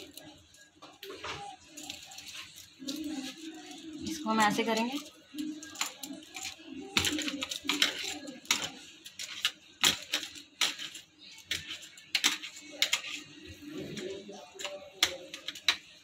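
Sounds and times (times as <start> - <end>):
bangles clinking: 1.4 - 16.0.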